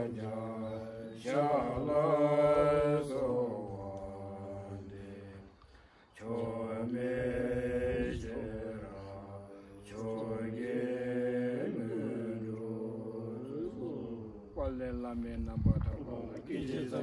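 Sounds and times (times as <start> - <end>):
monks chanting in unison: 0.0 - 17.0.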